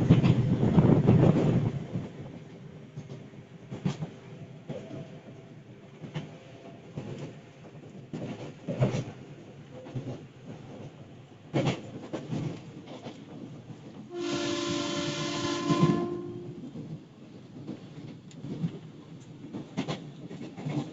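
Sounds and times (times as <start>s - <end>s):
train carriage running rumble: 0.0s - 20.9s.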